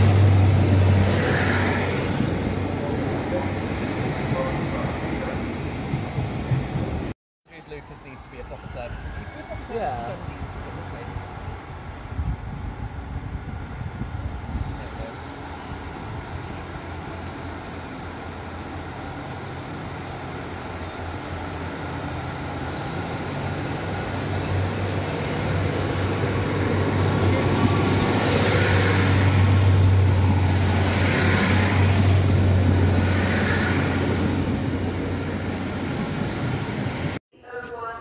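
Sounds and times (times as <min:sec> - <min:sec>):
diesel train engine drone: 0:00.0 - 0:07.1, 0:10.0 - 0:37.2
wheel and rail noise: 0:00.0 - 0:37.9.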